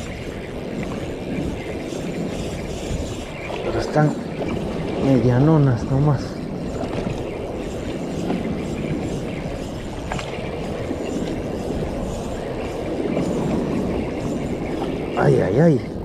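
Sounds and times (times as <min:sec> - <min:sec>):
fishing reel whirring: 0:00.0 - 0:16.0.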